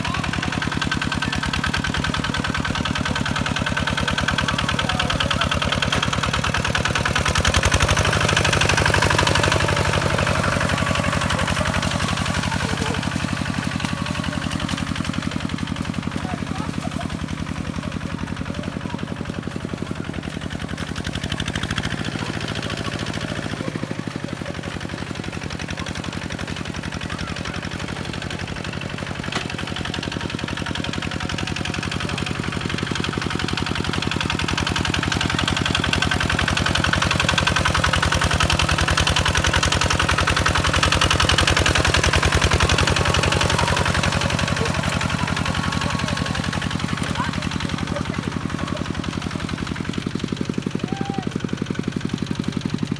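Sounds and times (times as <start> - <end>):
diesel tractor engine chugging: 0.0 - 52.9.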